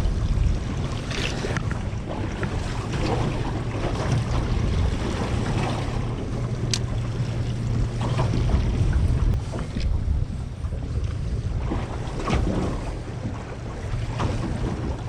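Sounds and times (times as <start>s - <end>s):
water slapping against boat: 0.0s - 15.0s
wind buffeting microphone: 0.0s - 15.0s.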